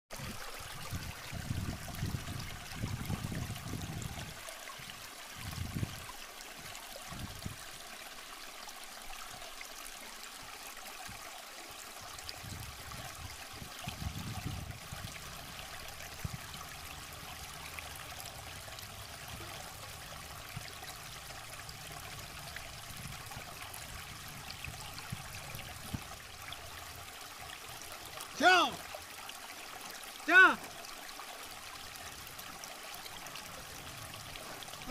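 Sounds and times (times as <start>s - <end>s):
river trickling over rocks: 0.1s - 34.9s.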